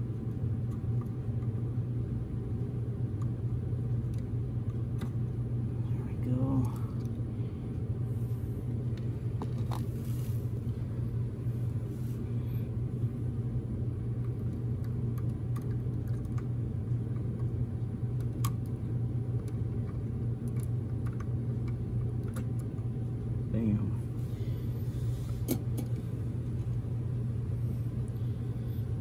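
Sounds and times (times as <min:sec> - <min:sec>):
machinery hum and rumble: 0:00.0 - 0:29.0.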